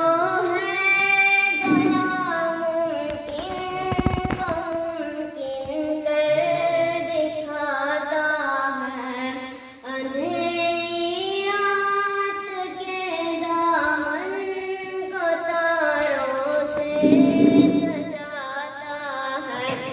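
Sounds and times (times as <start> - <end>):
person singing a devotional hymn: 0.0 - 19.9.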